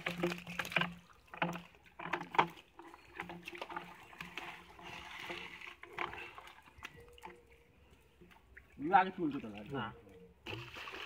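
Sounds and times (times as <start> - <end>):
squelching and splashing: 0.0 - 11.0.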